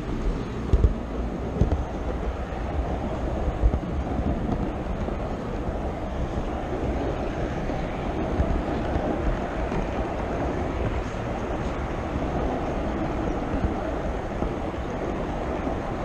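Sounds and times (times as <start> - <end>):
model train wheels rumbling: 0.0 - 16.0.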